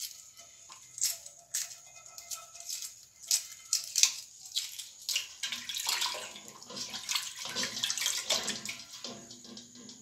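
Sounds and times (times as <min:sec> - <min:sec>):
water splashing in a steel bowl: 0:01.0 - 0:10.0.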